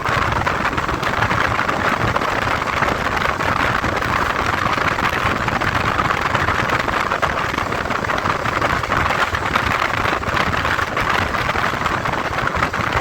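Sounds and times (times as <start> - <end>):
motorcycle riding wind and road hiss: 0.0 - 13.0.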